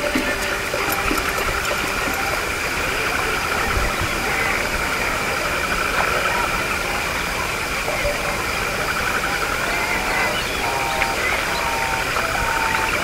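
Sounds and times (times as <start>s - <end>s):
chorus of insects: 0.0s - 13.0s.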